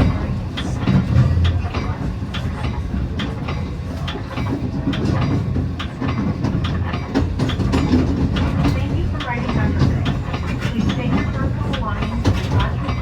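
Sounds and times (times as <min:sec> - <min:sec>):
train rolling rumble: 0:00.0 - 0:13.0
wheels clicking over rail joints: 0:00.0 - 0:13.0.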